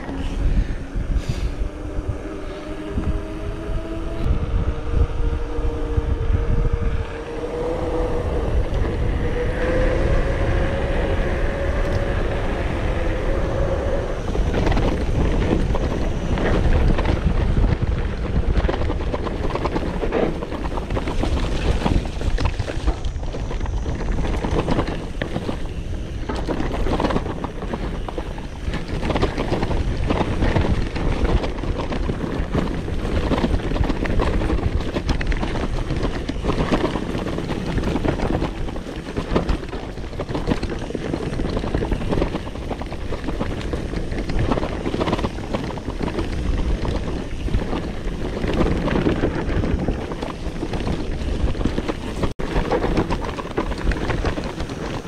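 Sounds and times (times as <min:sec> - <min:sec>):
wind buffeting microphone: 0:00.0 - 0:55.0
bike tyres and frame clattering: 0:04.8 - 0:55.0.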